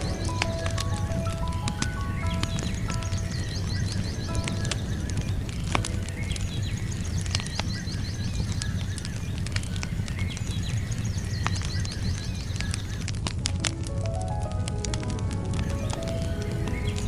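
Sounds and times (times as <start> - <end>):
faint high chirping: 0.0 - 13.1, 15.6 - 17.0
wood fire crackling: 0.0 - 17.0.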